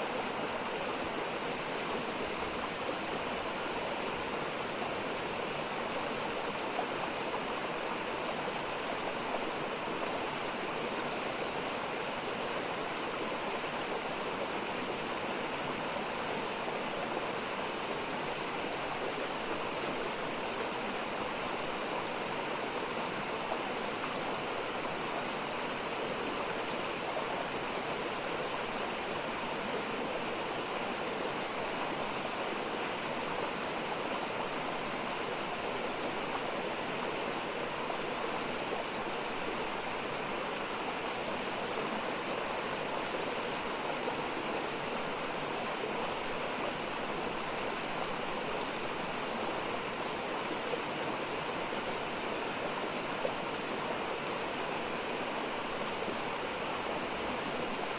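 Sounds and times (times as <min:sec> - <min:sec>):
stream flowing: 0:00.0 - 0:57.9.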